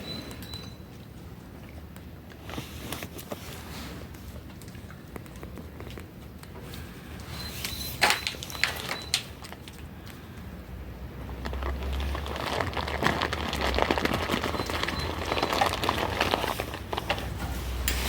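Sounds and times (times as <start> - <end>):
crackling and rustling: 0.3 - 10.5, 11.1 - 18.0.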